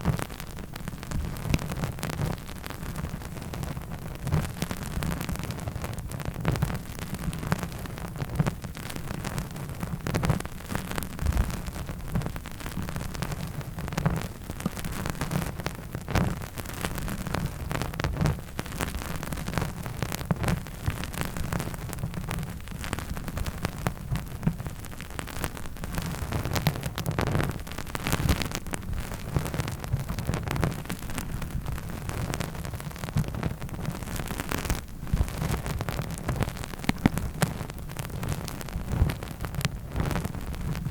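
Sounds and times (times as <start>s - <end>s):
small taps and crackles: 0.0s - 40.9s.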